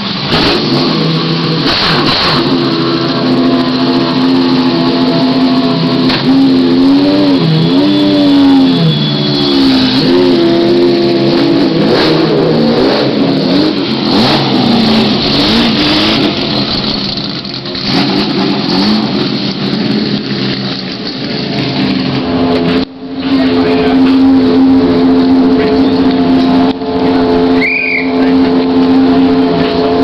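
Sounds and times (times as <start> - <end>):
race car engines: 0.0 - 30.0
racing car engine revving: 0.0 - 30.0.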